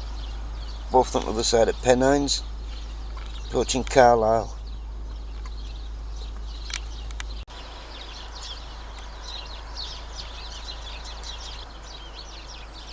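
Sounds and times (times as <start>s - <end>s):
small birds chirping: 0.0s - 12.9s
steady low rumble: 0.0s - 12.9s.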